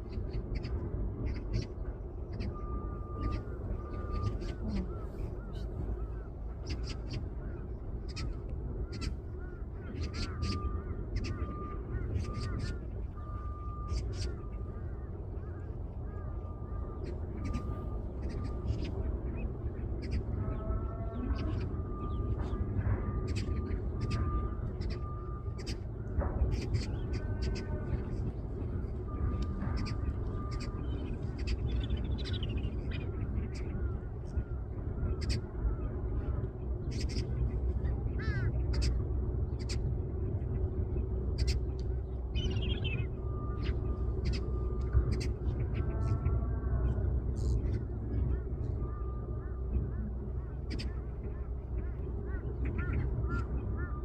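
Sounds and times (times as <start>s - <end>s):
warbled bird call: 0.0s - 54.0s
wind rumble on microphone: 0.0s - 54.0s.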